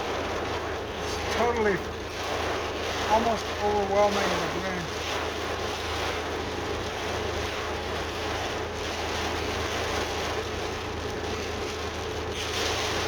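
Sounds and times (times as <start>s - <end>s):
heavy rain pouring: 0.0s - 13.0s
running storm water: 0.0s - 13.0s.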